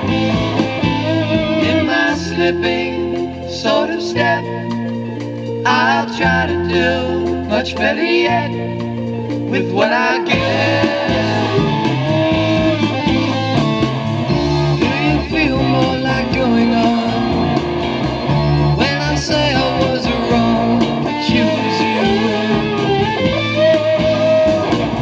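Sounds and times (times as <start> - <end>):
rock song over loudspeakers: 0.0 - 25.0.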